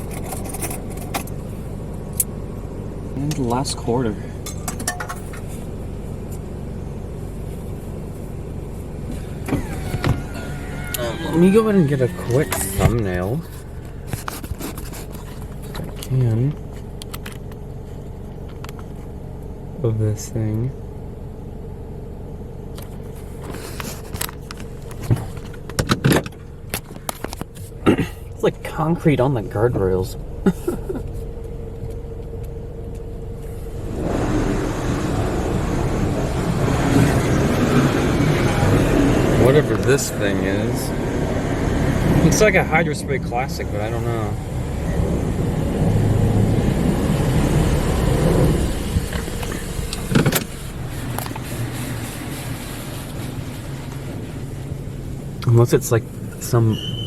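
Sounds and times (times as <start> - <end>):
car wash pump hum: 0.0 - 25.8, 26.4 - 57.0.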